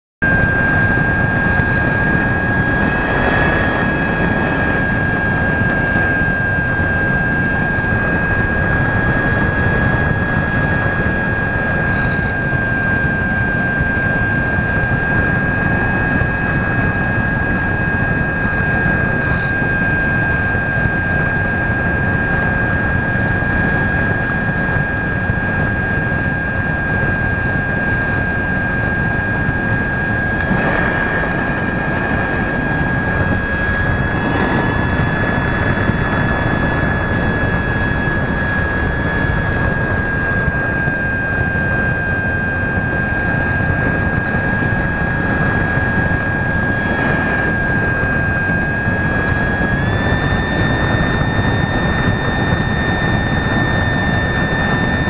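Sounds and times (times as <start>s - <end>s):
model aircraft motor whine: 0.2s - 55.0s
wind rush on microphone: 0.2s - 55.0s.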